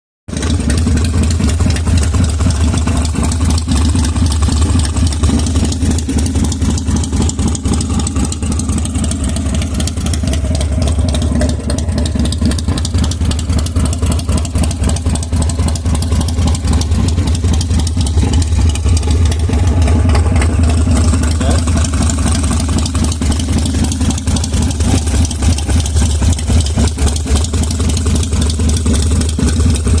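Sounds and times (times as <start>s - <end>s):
motorcycle engine idling: 0.3s - 30.0s.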